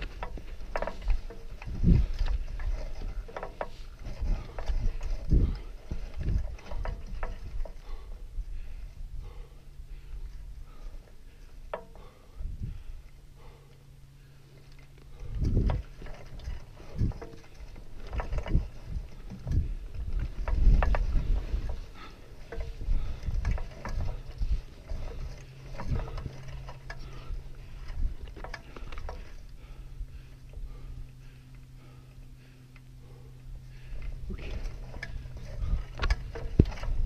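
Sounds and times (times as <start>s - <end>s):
wind buffeting microphone: 0.0s - 10.9s, 12.1s - 13.6s, 15.1s - 32.0s, 33.0s - 37.0s
faint low hum: 0.0s - 37.0s.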